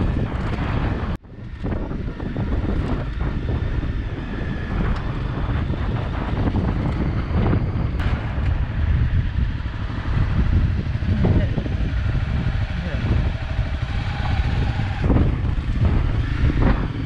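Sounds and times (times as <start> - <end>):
motorcycle engine: 0.0 - 17.0
tyres on stony track: 0.0 - 17.0
wind buffeting microphone: 0.0 - 17.0.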